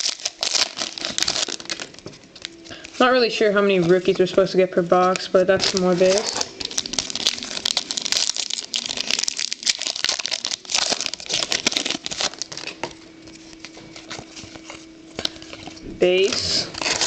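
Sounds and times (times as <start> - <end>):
foil wrapper crinkling and tearing: 0.0 - 4.4, 5.0 - 17.0
cards being handled: 0.0 - 17.0
faint steady hum: 0.0 - 17.0.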